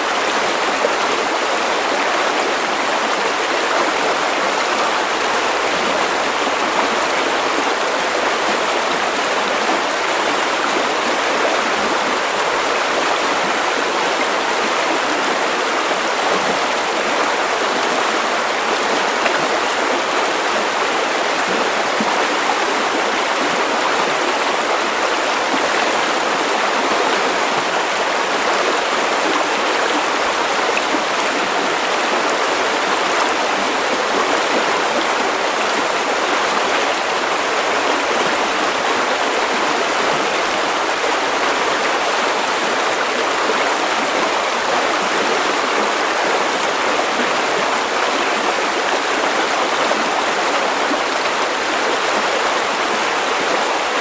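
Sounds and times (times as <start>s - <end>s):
stream water over stones: 0.0s - 54.0s.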